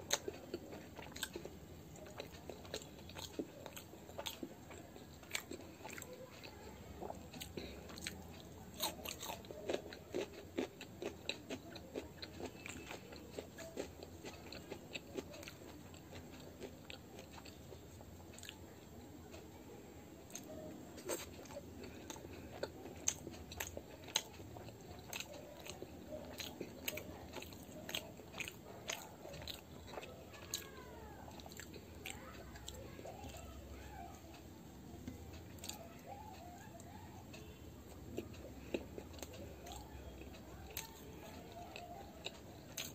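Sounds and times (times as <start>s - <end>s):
person chewing food: 0.0s - 19.5s, 20.2s - 42.9s.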